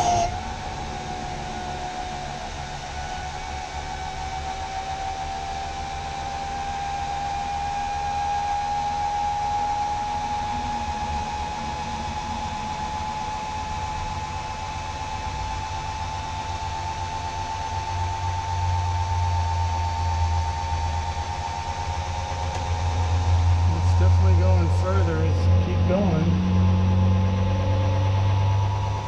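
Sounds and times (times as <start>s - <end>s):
electric motor and pump whine: 0.0s - 29.0s
low hum: 0.0s - 29.0s.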